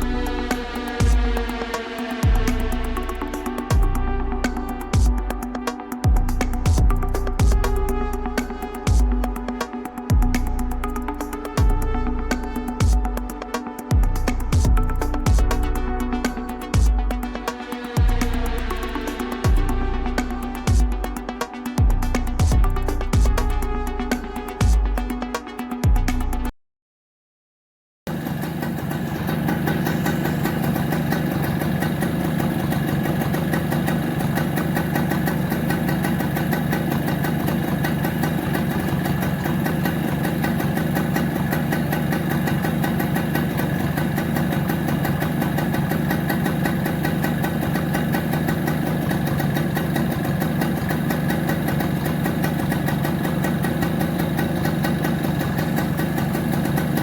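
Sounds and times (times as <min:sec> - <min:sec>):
moped engine idling: 0:00.0 - 0:25.0, 0:28.1 - 0:57.0.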